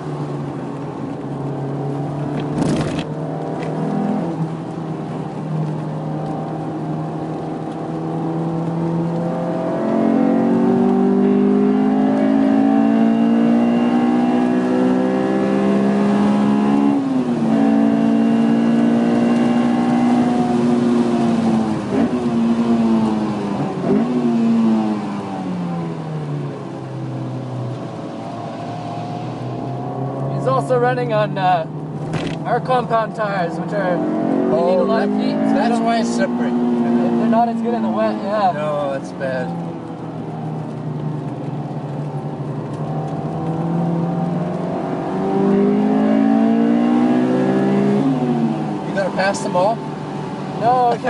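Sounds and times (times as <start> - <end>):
car engine revs falling: 0.7 - 26.2, 27.0 - 51.0.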